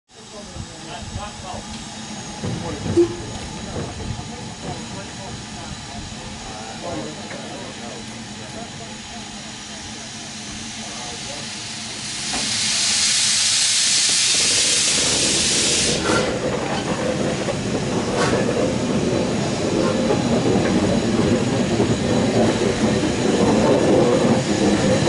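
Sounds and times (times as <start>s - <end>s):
train rumbling along rails: 0.1s - 25.0s
loud steam hiss: 0.2s - 25.0s.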